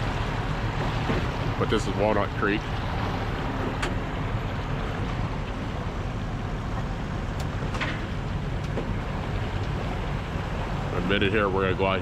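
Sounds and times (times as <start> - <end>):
boat motor running: 0.0 - 12.0
water noise: 0.0 - 12.0.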